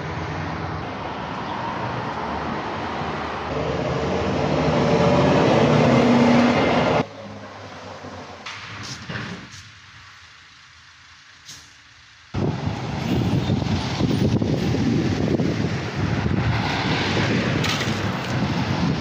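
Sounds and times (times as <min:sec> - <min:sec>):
heavy vehicle engine and road noise: 0:00.0 - 0:19.0.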